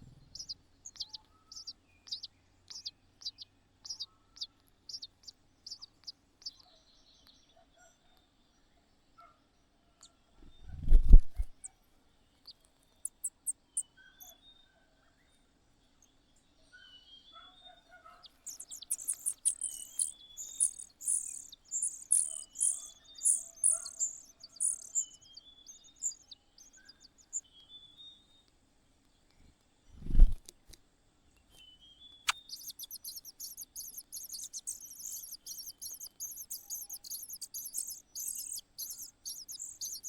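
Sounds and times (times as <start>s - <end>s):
small birds cheeping: 0.0s - 8.8s, 11.6s - 28.5s, 31.5s - 40.0s.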